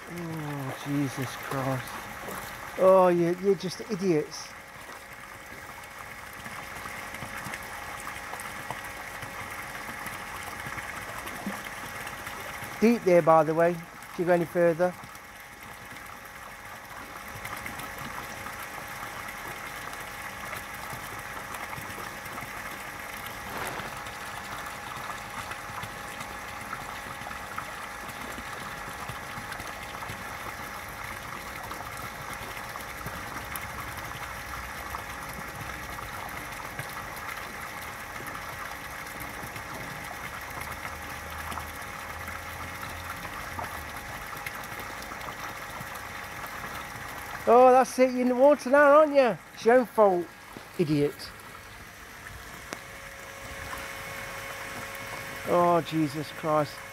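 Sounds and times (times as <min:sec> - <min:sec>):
pond water bubbling: 0:00.0 - 0:56.9.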